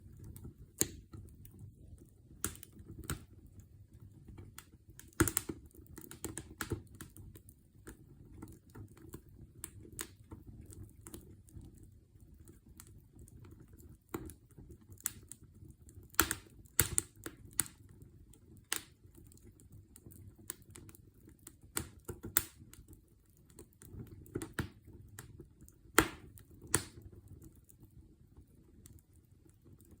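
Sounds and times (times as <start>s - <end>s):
campfire crackling and popping: 0.0s - 1.6s, 2.3s - 3.3s, 4.3s - 11.8s, 12.6s - 18.0s, 18.6s - 27.6s.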